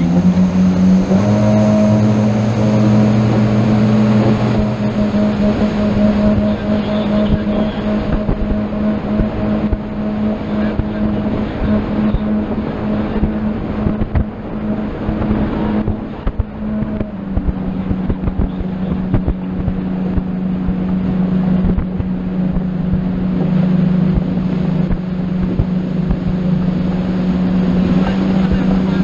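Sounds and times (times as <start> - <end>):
motorboat engine running: 0.0 - 29.0
water rushing: 0.0 - 29.0
wind on microphone: 0.0 - 29.0.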